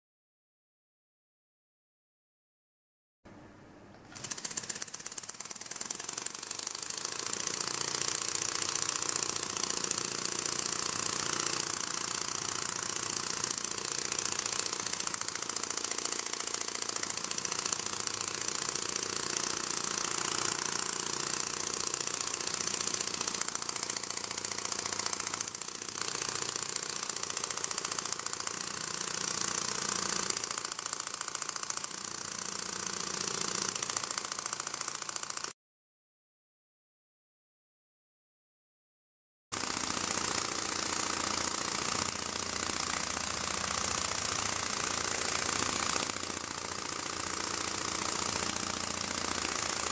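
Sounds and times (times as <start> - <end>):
mechanical wing flapping buzz: 4.0 - 35.6, 39.5 - 49.9.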